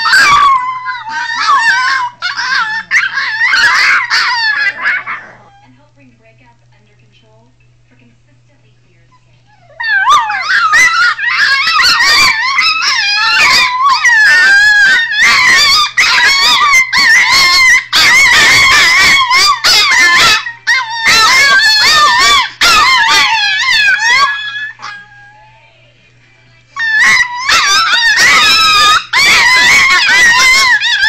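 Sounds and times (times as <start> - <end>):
puppies whining and yowling: 0.0 - 5.7, 9.1 - 25.8, 26.8 - 31.0.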